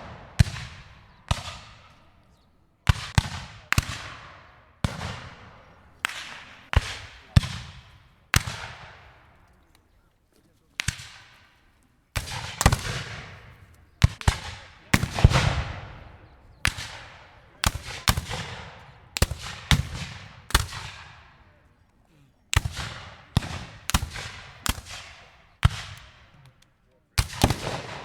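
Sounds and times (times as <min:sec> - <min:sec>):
gunshots with echoing decay: 0:00.0 - 0:10.0, 0:10.7 - 0:21.8, 0:22.5 - 0:28.0.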